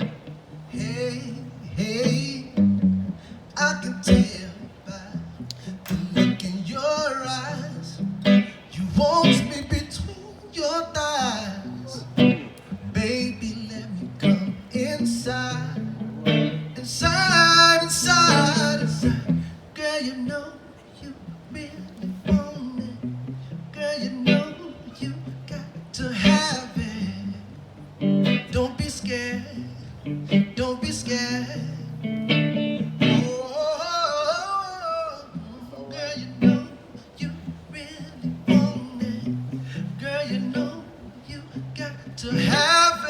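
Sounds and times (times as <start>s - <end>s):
person singing: 0.0s - 2.6s, 3.6s - 43.0s
acoustic guitar: 0.0s - 43.0s.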